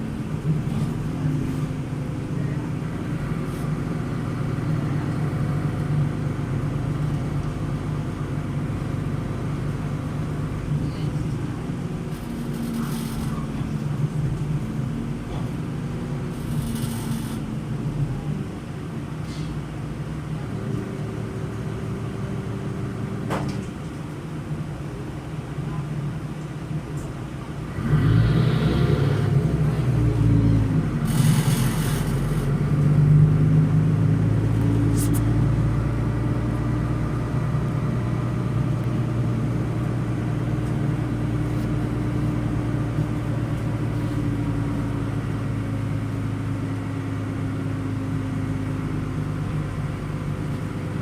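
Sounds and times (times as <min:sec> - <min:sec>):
bus engine accelerating: 0:00.0 - 0:51.0.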